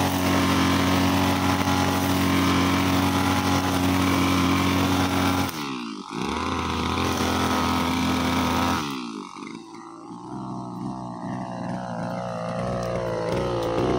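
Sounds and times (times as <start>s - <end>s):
brushcutter engine at high revs: 0.0s - 13.9s.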